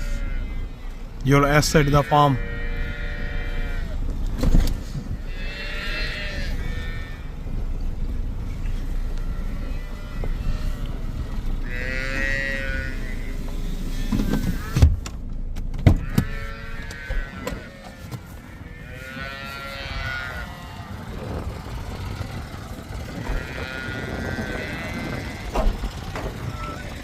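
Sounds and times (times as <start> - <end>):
calves bawling: 0.0 - 4.2, 5.1 - 14.9, 16.0 - 27.0.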